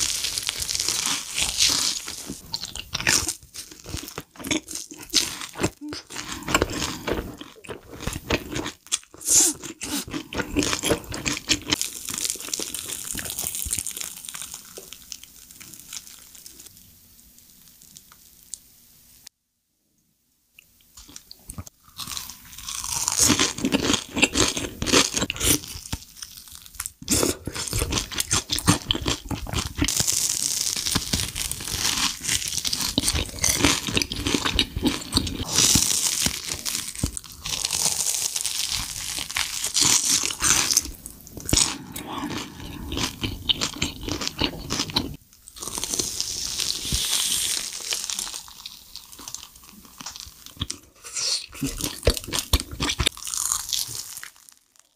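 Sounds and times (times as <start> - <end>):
crunching bites and chewing: 0.0 - 16.7, 21.0 - 54.9.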